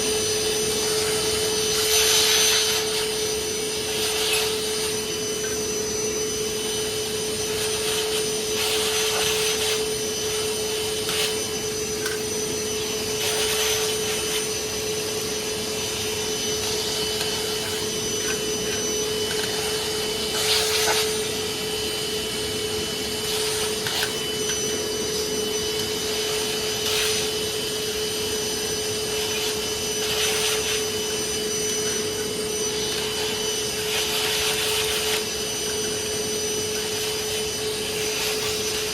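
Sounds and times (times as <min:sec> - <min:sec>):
vacuum cleaner motor humming: 0:00.0 - 0:38.9.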